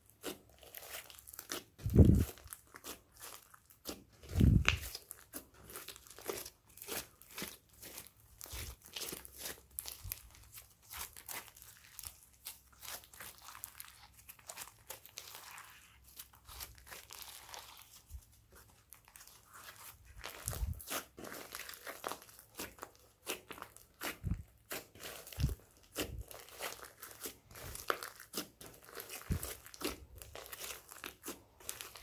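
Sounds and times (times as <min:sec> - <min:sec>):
slime crackling and popping: 0:00.0 - 0:18.2, 0:19.0 - 0:32.0.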